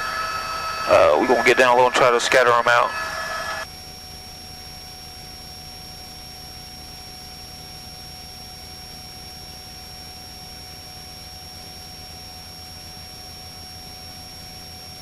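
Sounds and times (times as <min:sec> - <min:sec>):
high-pitched electronic whine: 0:00.0 - 0:15.0.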